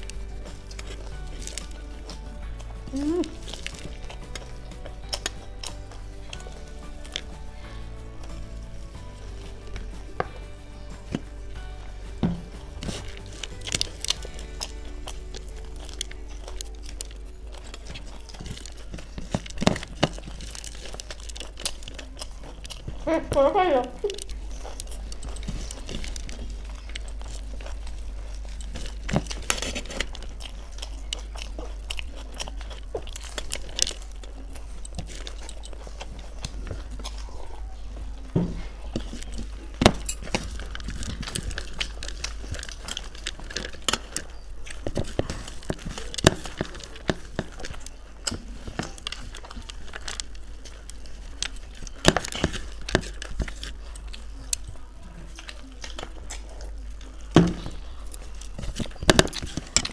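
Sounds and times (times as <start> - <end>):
crunching puffed rice: 0.0 - 59.9.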